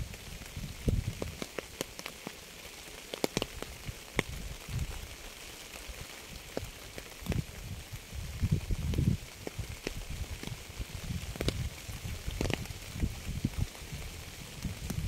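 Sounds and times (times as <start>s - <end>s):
rain hissing: 0.0s - 15.0s
raindrops ticking: 0.0s - 15.0s.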